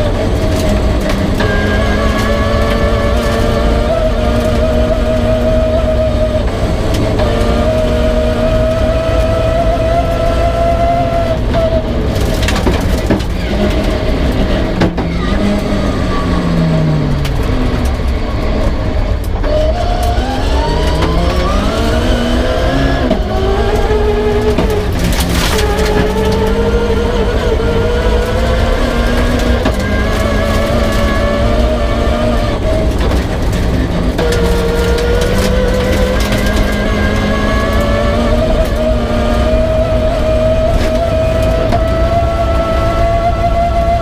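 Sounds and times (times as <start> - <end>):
rally car engine revving: 0.0 - 44.0
road rumble: 0.0 - 44.0.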